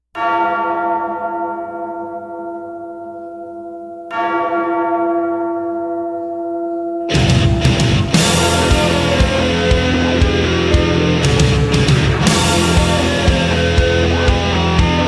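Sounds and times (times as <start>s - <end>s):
bell tolling: 0.2s - 15.0s.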